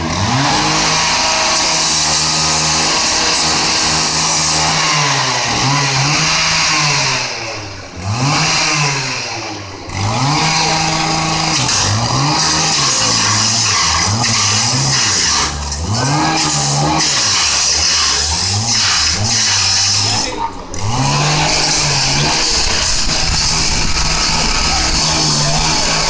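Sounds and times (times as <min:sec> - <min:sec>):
chainsaw cutting into metal: 0:00.0 - 0:26.0.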